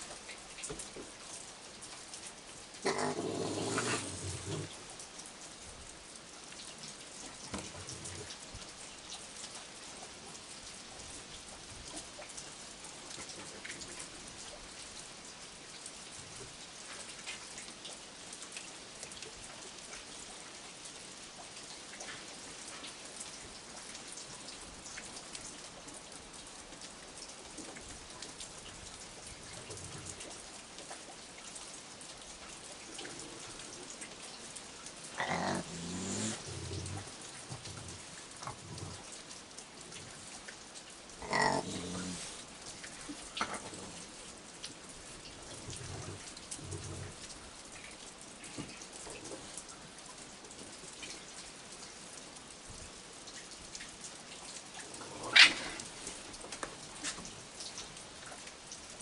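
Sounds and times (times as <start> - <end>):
raindrops ticking on surfaces: 0.0 - 59.0
steady rain: 0.0 - 59.0.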